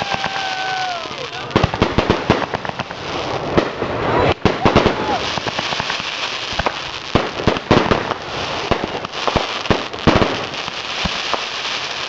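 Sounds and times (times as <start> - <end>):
firework bangs: 0.0 - 12.0
fireworks crackling hiss: 0.0 - 12.0.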